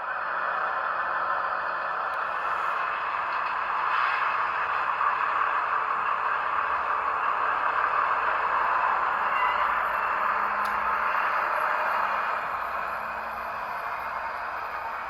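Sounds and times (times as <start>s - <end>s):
small speaker diesel engine sound: 0.0s - 15.0s.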